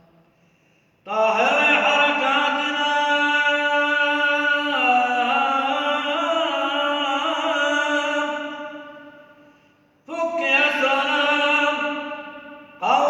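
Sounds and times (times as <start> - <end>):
man chanting a prayer: 1.1 - 9.1, 10.1 - 13.0.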